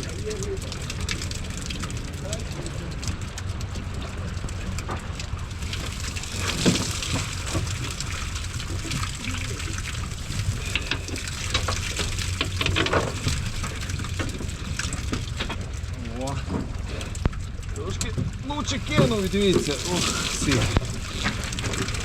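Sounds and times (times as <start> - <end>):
steady low rumble: 0.0 - 22.0
water splashing: 0.0 - 22.0.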